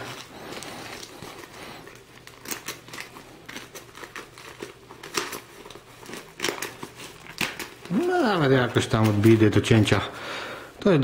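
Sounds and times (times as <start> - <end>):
paper envelope crinkling: 0.0 - 10.0.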